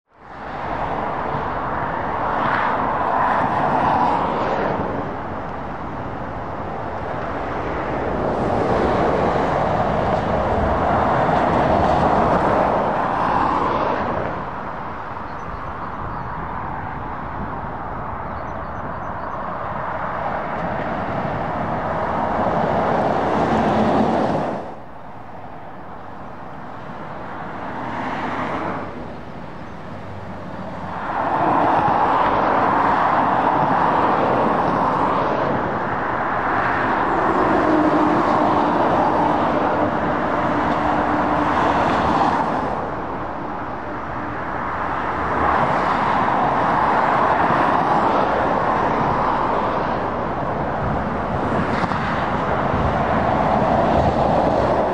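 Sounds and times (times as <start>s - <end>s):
lorries and cars passing: 0.0s - 54.9s.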